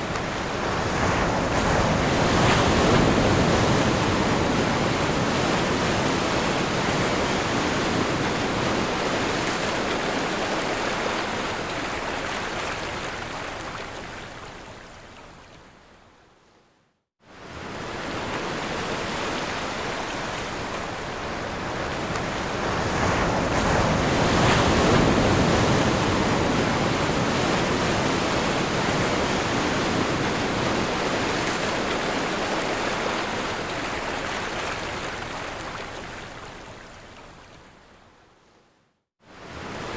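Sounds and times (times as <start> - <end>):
ocean waves breaking on shore: 0.0 - 15.6, 17.2 - 37.7, 39.2 - 39.9.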